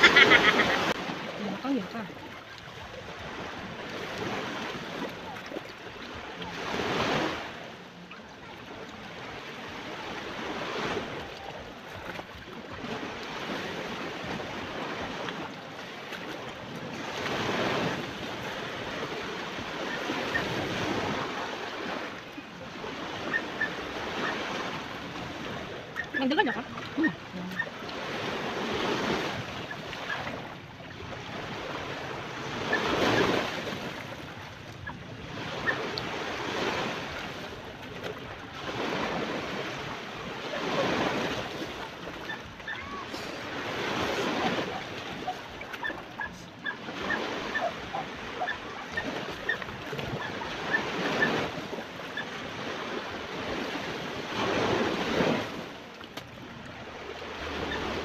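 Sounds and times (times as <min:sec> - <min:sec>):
sea waves breaking: 0:00.0 - 0:58.0.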